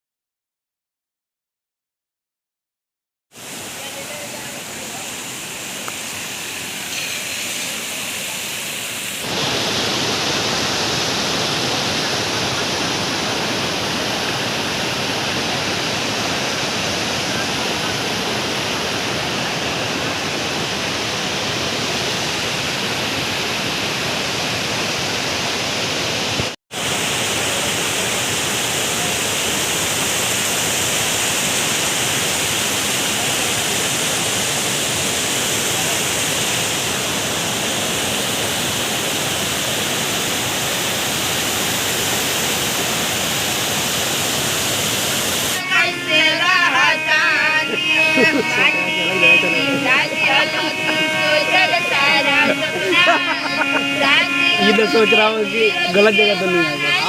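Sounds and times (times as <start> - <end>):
waterfall roaring: 3.4 - 57.0.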